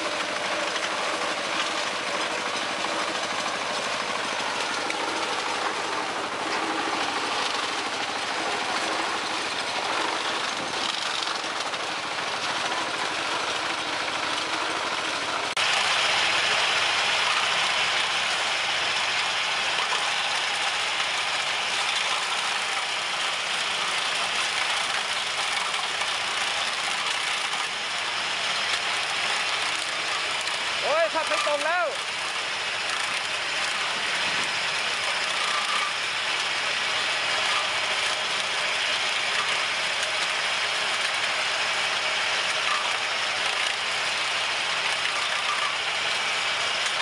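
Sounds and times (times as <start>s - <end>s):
harvester engine with mechanical rattle: 0.0s - 47.0s
tractor with cutter running: 0.0s - 47.0s.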